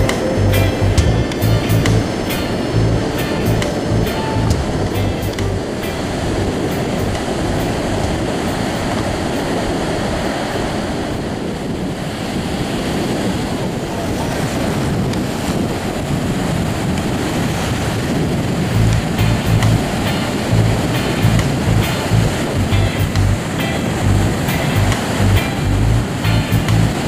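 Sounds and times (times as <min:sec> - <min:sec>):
ocean surf breaking: 0:00.0 - 0:27.0
wind buffeting microphone: 0:00.0 - 0:27.0.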